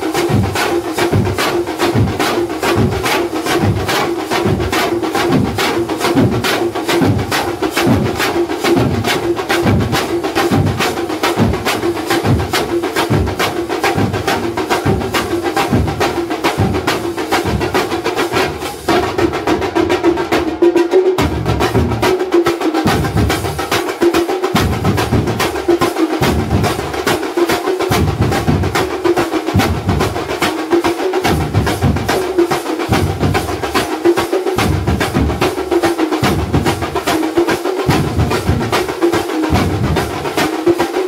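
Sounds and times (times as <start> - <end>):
frame drums beaten fast: 0.0 - 41.0.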